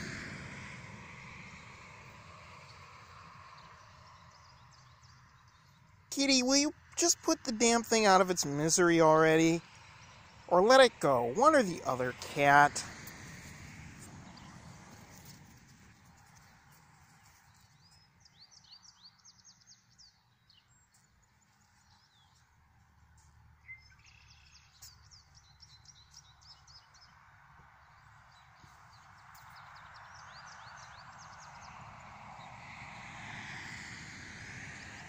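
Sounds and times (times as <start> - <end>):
birds chirping: 2.0 - 13.1, 14.2 - 32.6.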